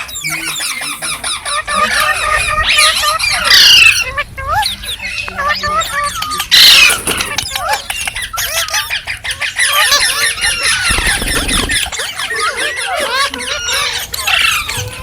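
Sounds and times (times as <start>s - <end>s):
parrots squawking and chirping: 0.0s - 15.0s.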